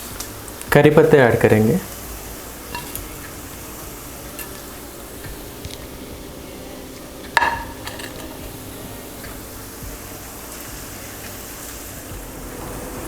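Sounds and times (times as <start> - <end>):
onions sizzling in hot oil: 0.0 - 13.0
spatula scraping a pan: 1.4 - 12.1.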